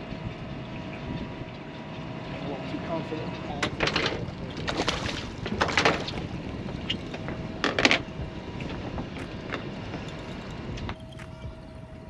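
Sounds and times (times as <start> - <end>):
water around boat: 0.0 - 12.0
wind buffeting microphone: 0.0 - 12.0.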